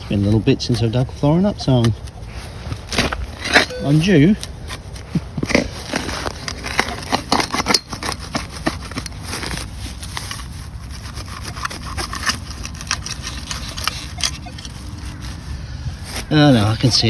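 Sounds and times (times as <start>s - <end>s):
hand tool scraping wet soil: 0.0s - 17.0s.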